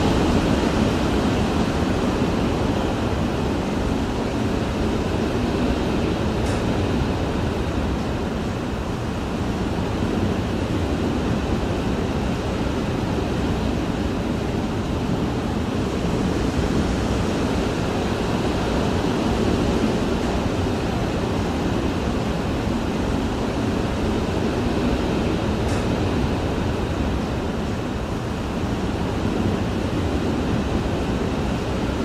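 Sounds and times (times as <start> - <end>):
muffled wind rushing against house: 0.0 - 32.0.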